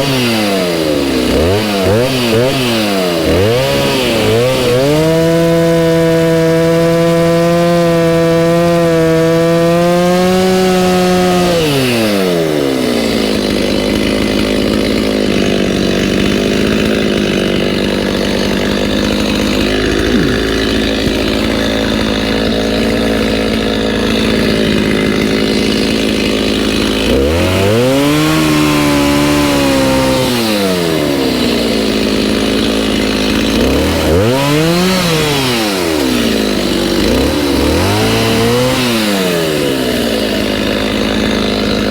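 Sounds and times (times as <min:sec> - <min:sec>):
chainsaw running and revving: 0:00.0 - 0:41.9.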